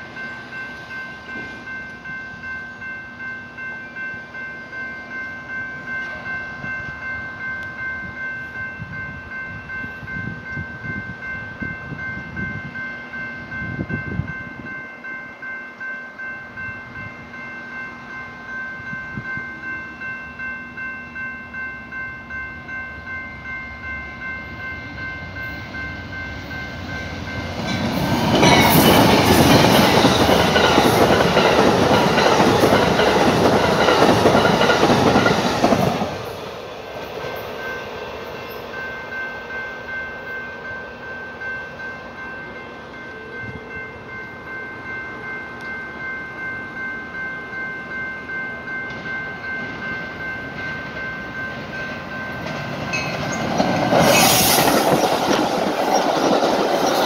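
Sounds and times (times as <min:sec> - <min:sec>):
passenger train passing: 0:00.0 - 0:57.0
railroad crossing bell ringing: 0:00.0 - 0:57.0.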